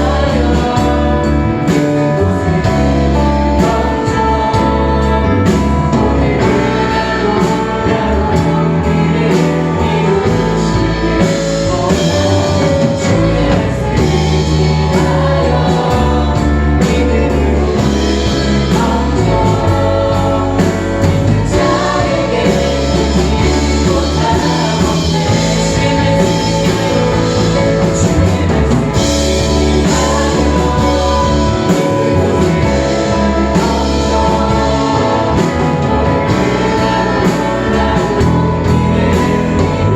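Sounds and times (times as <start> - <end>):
band playing worship music: 0.0 - 39.9
people singing: 0.0 - 39.9
steady drum beat: 0.0 - 39.9
strong bass line: 0.0 - 39.9.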